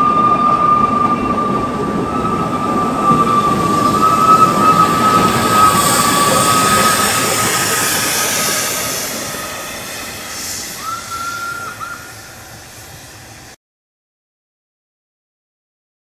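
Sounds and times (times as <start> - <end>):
high squeal: 0.0 - 13.6
steam hiss: 0.0 - 13.6
steam locomotive hauling coach: 0.0 - 13.6.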